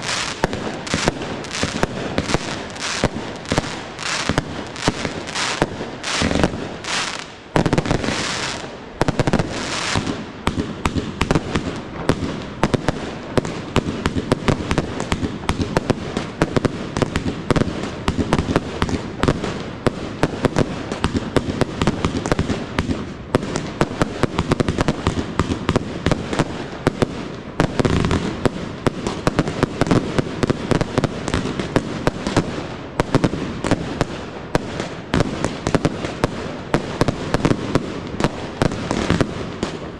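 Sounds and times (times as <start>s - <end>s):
fireworks crackling: 0.0s - 39.9s
heavy firework bangs: 0.0s - 39.9s.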